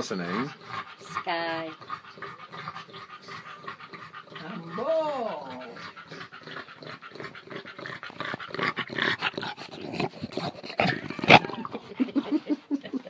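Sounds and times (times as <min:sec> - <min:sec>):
dog grunting breaths: 0:00.0 - 0:13.0.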